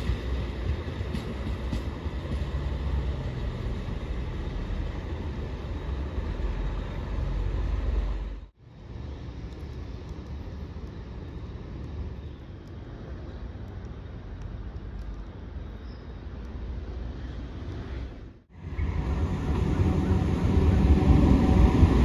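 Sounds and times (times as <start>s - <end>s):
low rumble of vehicle noise: 0.0s - 22.0s.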